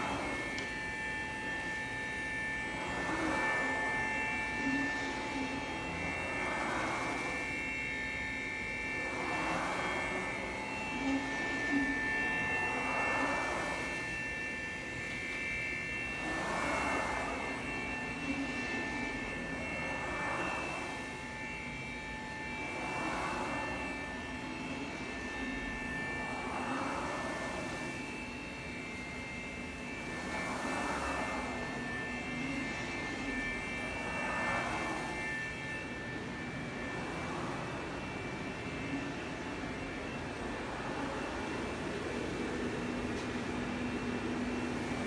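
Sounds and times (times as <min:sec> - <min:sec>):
router spindle high whine: 0:00.0 - 0:45.0.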